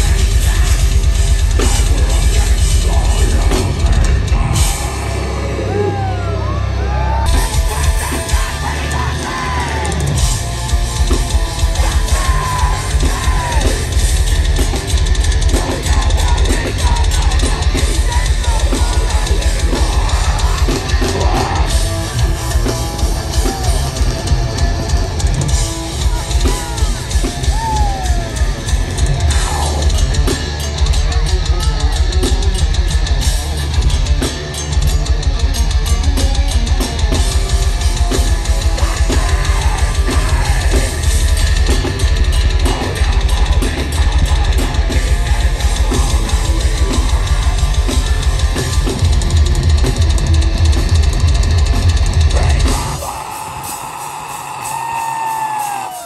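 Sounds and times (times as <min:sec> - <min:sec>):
heavy metal music: 0:00.0 - 0:56.0.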